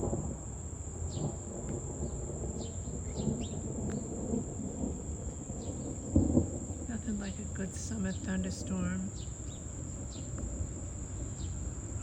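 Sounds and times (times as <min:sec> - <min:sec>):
distant thunder rumble: 0:00.0 - 0:12.0.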